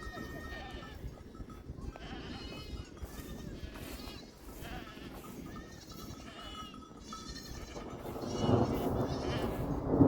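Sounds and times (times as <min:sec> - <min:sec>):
sheep and goats bleating: 0:00.0 - 0:09.8.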